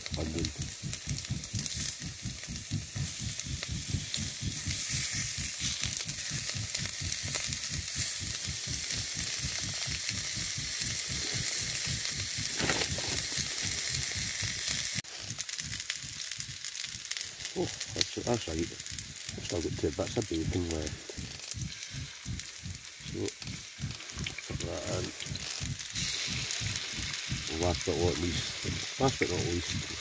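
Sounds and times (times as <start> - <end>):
potatoes and onion sizzling in pan: 0.0 - 30.0.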